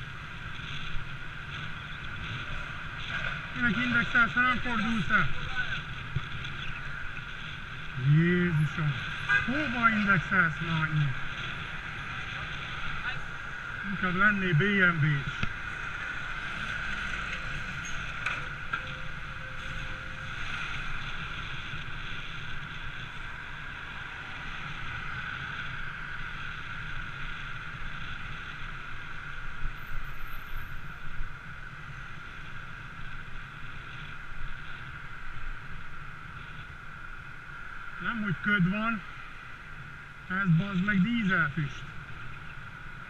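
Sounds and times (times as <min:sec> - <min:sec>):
road noise: 0:00.0 - 0:43.0
rushing wind: 0:00.0 - 0:43.0.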